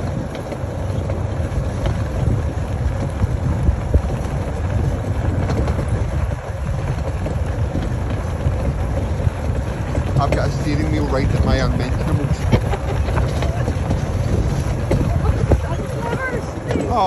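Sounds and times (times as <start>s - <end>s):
tractor train rumbling on dirt: 0.0s - 17.0s
wind buffeting microphone: 0.0s - 17.0s.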